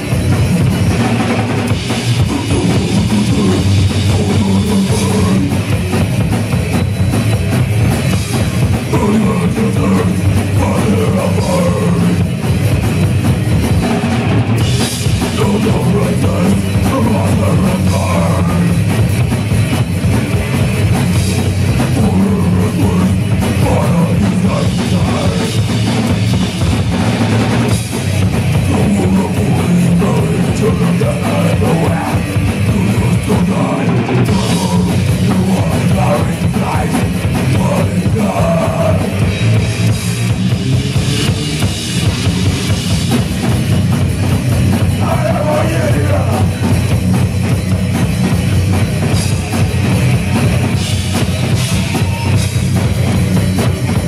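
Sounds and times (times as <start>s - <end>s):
live metal band: 0.0s - 54.0s.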